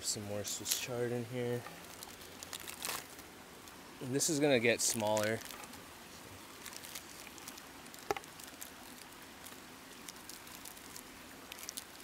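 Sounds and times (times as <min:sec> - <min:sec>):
wood fire crackling: 0:00.1 - 0:12.0.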